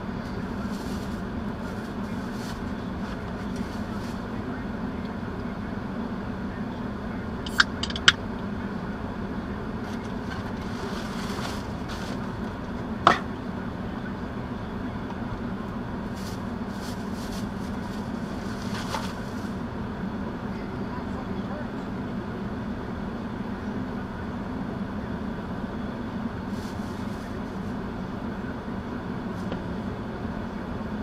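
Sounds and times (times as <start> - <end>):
car cabin low hum: 0.0 - 31.0.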